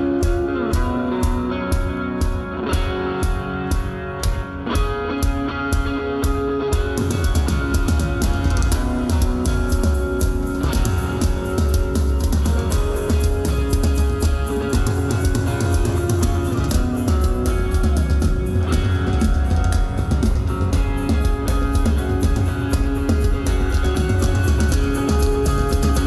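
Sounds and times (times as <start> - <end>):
bass guitar: 0.0 - 26.0
drum kit: 0.0 - 26.0
electric guitars: 0.0 - 26.0.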